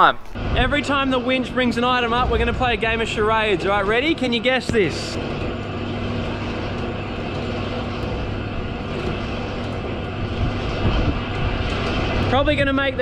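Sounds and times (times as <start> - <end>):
winch motor drone: 0.4 - 13.0.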